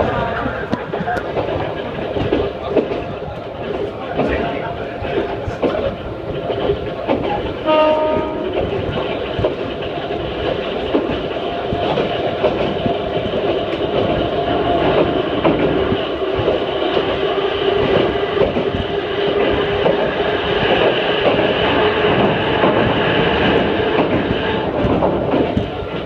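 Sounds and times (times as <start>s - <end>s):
rail joint clicks: 0.0s - 26.0s
wheels on rails: 0.0s - 26.0s.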